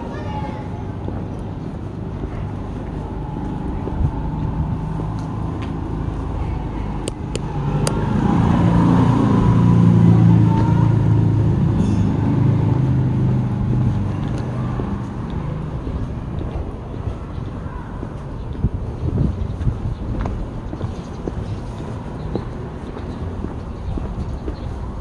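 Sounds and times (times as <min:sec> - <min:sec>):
low outdoor rumble: 0:00.0 - 0:25.0
vehicle engine hum: 0:00.0 - 0:25.0.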